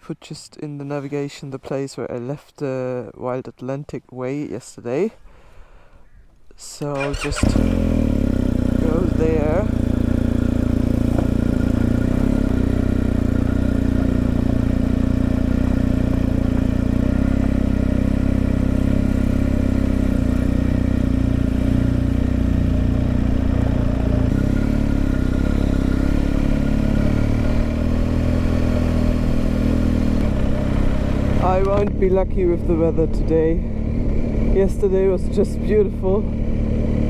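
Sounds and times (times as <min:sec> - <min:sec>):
motorcycle engine running: 0:07.0 - 0:37.0.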